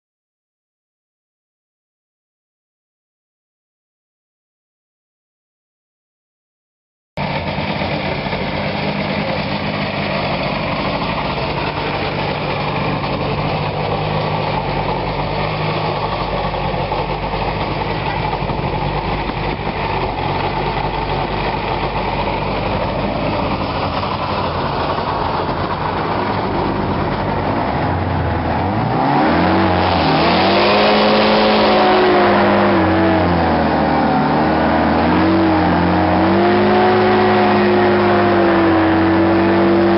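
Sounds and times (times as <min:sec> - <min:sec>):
hovercraft engine and fan running: 0:07.2 - 0:39.9.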